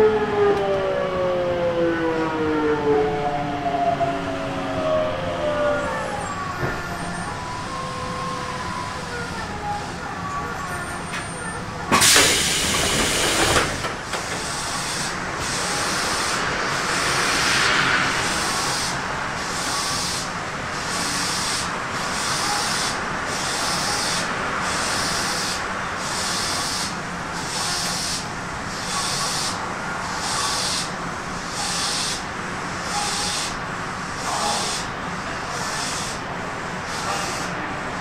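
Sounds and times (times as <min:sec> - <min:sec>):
train pulsing hiss: 0:06.2 - 0:38.0.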